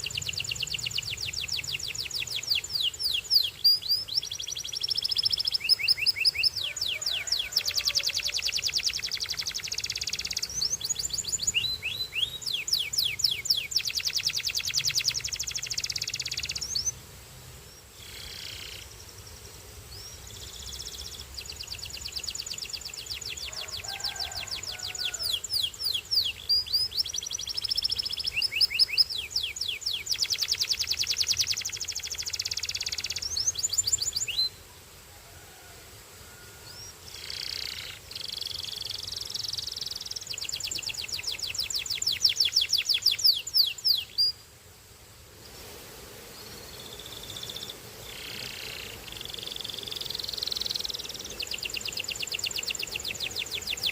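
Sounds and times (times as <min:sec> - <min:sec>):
canary singing: 0:00.0 - 0:17.0, 0:20.0 - 0:34.6, 0:36.6 - 0:44.4, 0:47.1 - 0:53.9.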